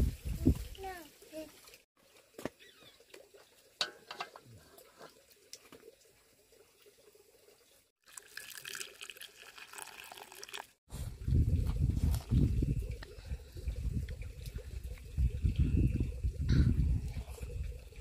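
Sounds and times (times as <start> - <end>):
water running and splashing: 0.0 - 10.8, 11.4 - 18.0.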